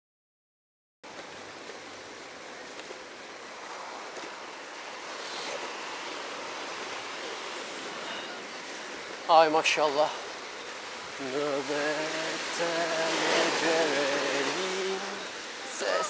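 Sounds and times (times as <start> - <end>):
steady rushing noise: 1.1 - 16.0.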